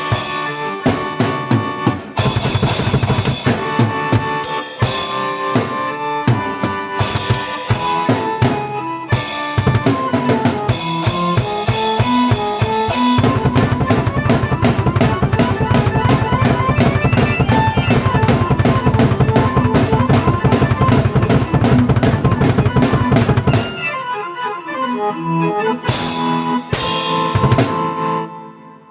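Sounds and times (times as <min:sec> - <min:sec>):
fast drum beat: 0:00.0 - 0:24.0, 0:25.9 - 0:27.9
keyboard notes: 0:00.0 - 0:28.9.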